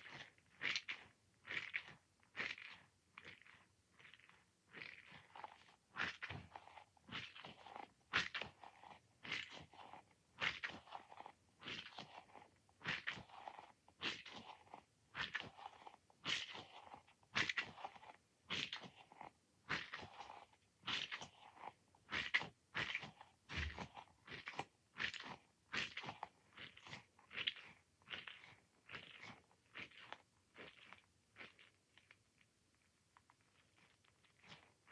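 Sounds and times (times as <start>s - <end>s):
squishy ball squelching: 0.0s - 32.3s.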